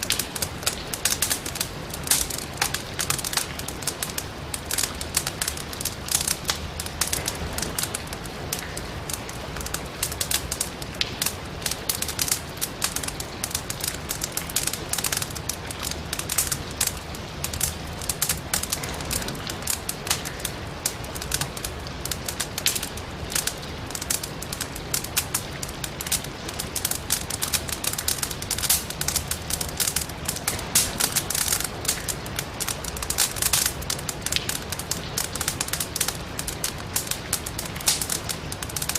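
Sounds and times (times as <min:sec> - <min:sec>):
firewood crackling and popping: 0:00.0 - 0:38.9
rain hissing: 0:00.0 - 0:38.9.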